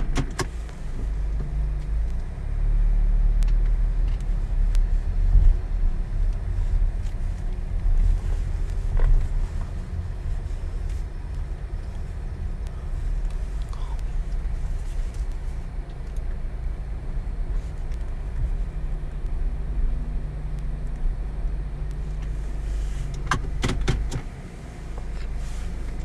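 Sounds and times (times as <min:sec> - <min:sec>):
car wash equipment rumbling: 0:00.0 - 0:26.0.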